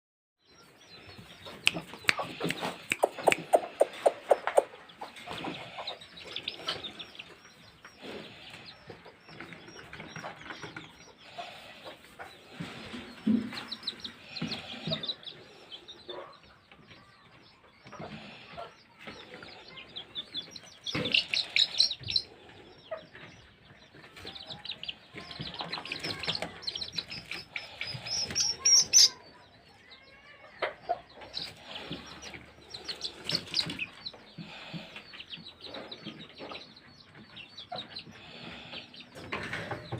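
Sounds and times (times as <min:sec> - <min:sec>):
chickens clucking: 0:00.5 - 0:39.9.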